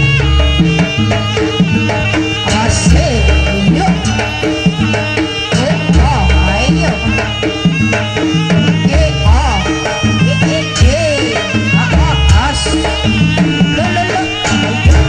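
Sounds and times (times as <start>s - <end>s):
ringing metal-keyed tones: 0.0s - 15.0s
sliding pitched notes: 0.0s - 15.0s.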